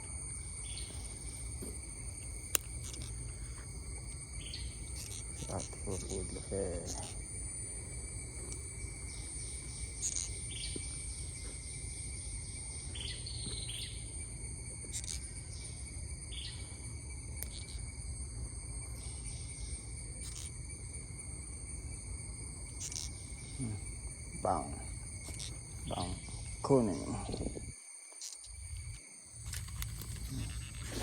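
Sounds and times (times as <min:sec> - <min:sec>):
insects shrilling: 0:00.0 - 0:31.0.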